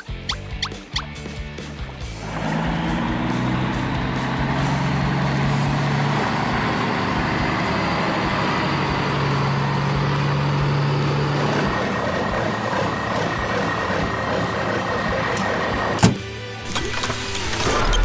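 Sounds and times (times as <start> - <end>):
heavy truck engine running: 1.6 - 18.0.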